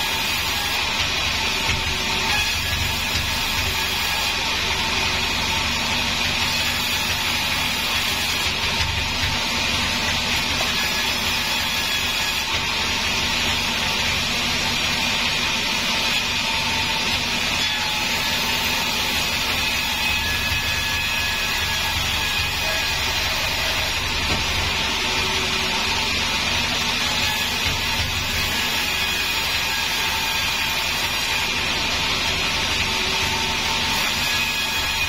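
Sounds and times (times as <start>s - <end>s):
band saw ripping wood: 0.0s - 35.0s.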